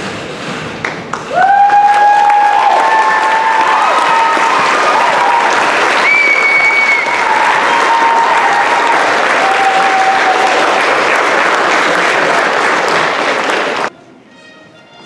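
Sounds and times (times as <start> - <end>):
audience applauding: 0.8 - 13.9
audience cheering: 1.1 - 13.9.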